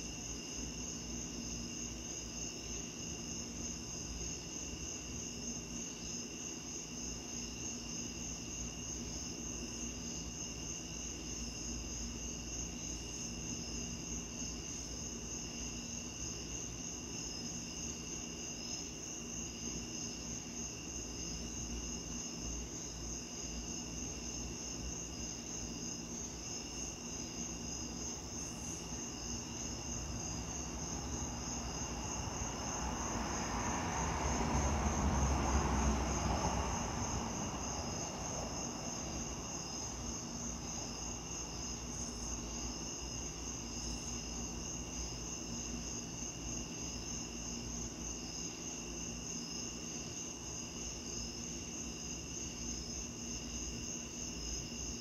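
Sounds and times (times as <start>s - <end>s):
crickets trilling: 0.0s - 55.0s
low steady background hum: 0.0s - 55.0s.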